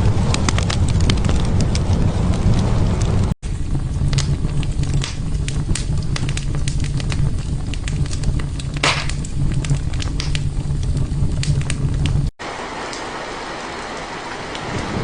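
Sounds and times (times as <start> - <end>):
hissing crackle: 0.0 - 15.0
wood fire crackling: 0.0 - 15.0.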